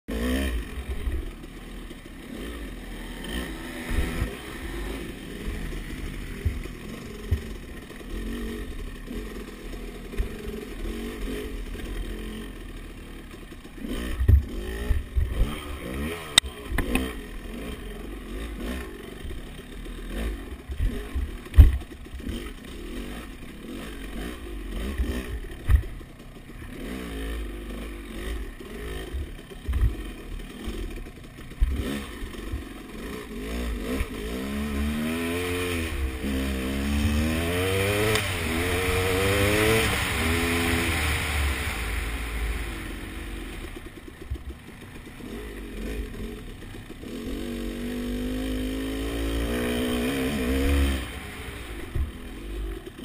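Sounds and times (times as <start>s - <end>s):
dirt bike engine revving: 0.1s - 53.0s.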